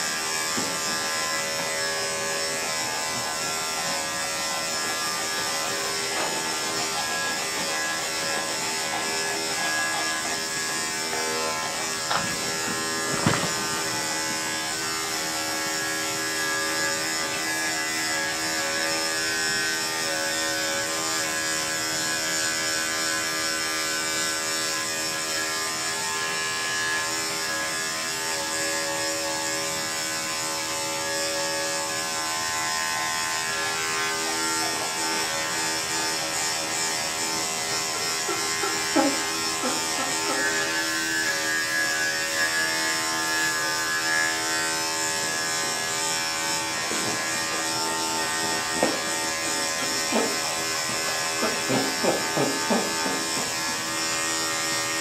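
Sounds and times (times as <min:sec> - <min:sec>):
electric clippers running: 0:00.0 - 0:55.0.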